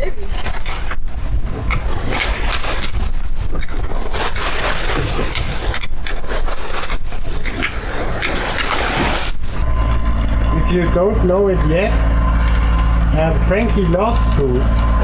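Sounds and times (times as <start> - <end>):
water rushing past boat: 0.0 - 15.0
wind: 0.0 - 15.0.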